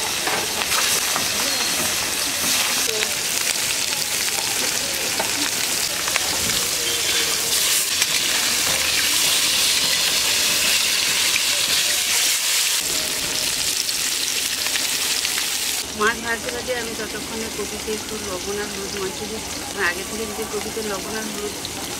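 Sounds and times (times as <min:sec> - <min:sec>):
fish sizzling in hot oil: 0:00.0 - 0:21.9.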